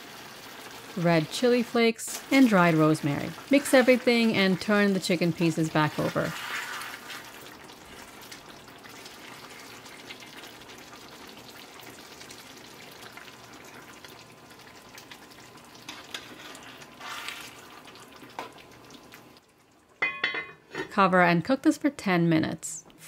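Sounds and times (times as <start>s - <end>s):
chicken sizzling in sauce: 0.0s - 19.4s
wet stirring sounds: 0.0s - 20.7s.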